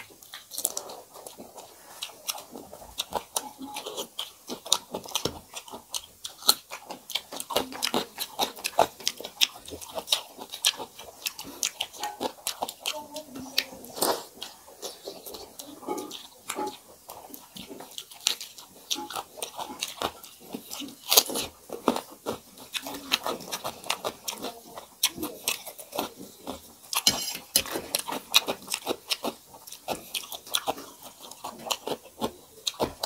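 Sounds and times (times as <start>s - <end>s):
people chewing: 0.0s - 33.0s.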